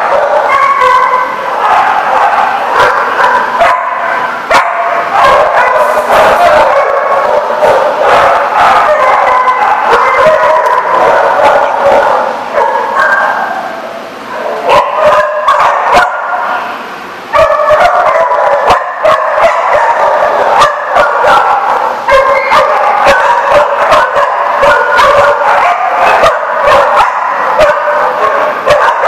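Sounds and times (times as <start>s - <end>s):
dogs barking and yipping: 0.0s - 29.0s.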